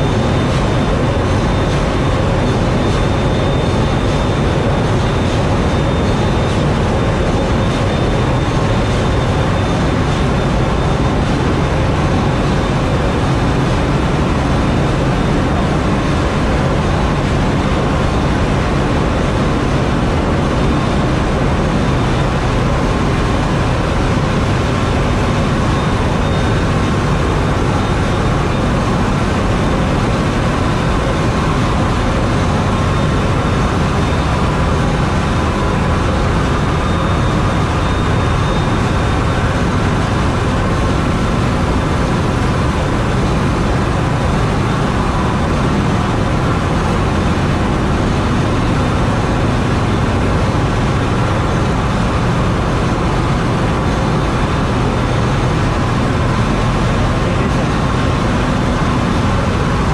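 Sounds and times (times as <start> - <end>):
diesel engine and pumps running: 0.0 - 59.9
faint steady whines: 0.0 - 59.9.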